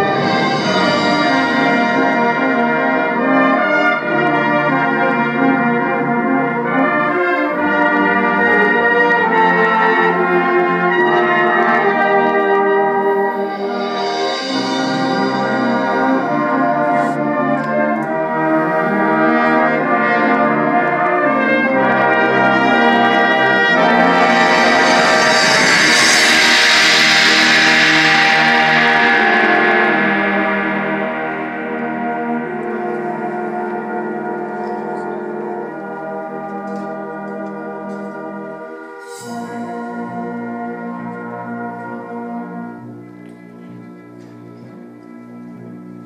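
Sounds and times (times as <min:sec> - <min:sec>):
brass ensemble playing chords: 0:00.0 - 0:46.0.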